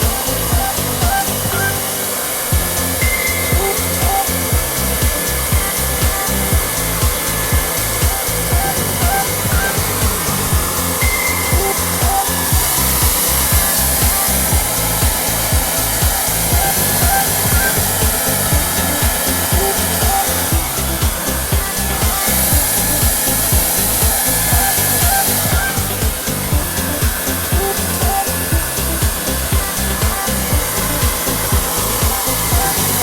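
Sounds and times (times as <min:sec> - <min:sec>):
background music with beat: 0:00.0 - 0:33.0
hair dryer blowing: 0:00.0 - 0:33.0.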